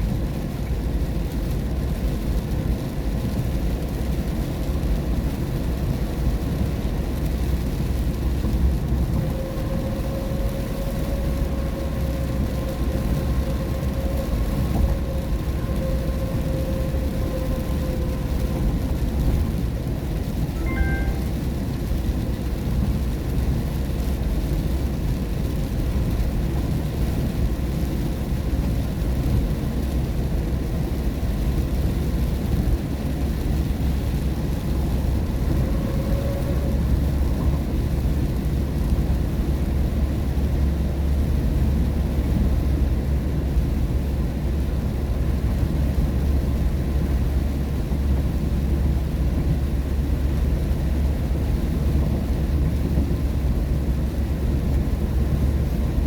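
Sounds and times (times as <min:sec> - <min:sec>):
car tyres and engine on wet road: 0:00.0 - 0:56.0.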